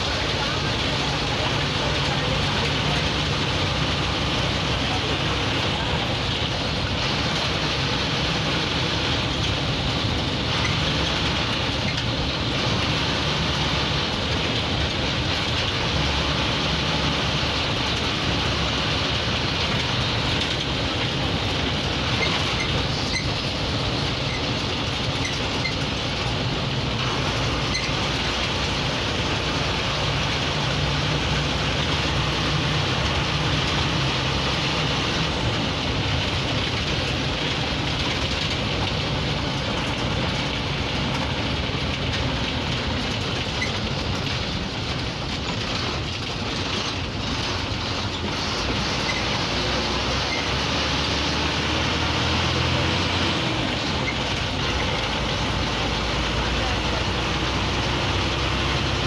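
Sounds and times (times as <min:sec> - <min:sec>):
bus engine running: 0:00.0 - 0:59.0
road and cabin noise: 0:00.0 - 0:59.0.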